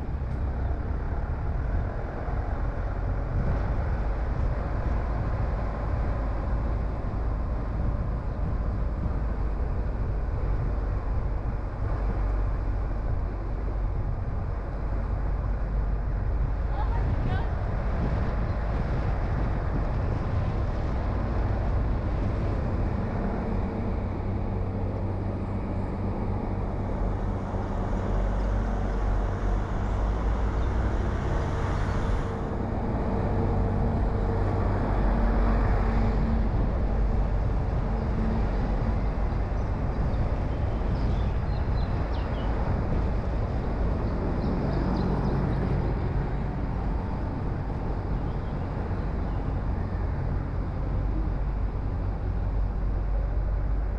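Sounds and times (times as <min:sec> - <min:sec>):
road noise: 0:00.0 - 0:53.9.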